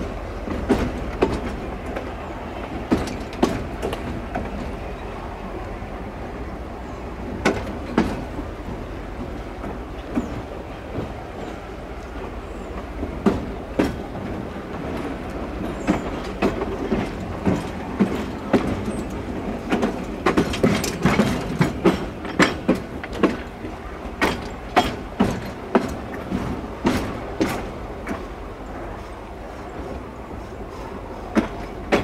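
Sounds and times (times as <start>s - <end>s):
train wheels clacking over rail joints: 0.0s - 5.2s, 7.2s - 32.0s
moving train rumble: 0.0s - 32.0s.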